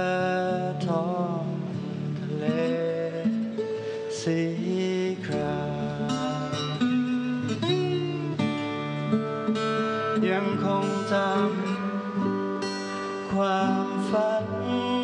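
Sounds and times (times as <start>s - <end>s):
acoustic guitar plucked notes: 0.0s - 15.0s.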